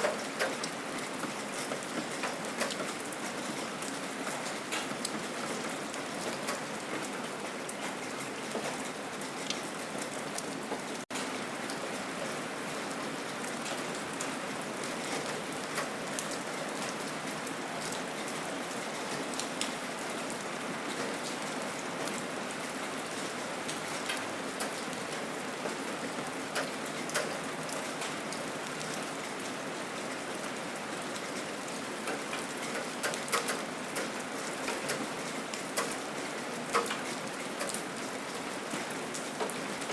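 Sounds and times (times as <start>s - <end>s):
gentle rain falling: 0.0s - 39.9s
raindrops ticking close by: 0.0s - 39.9s.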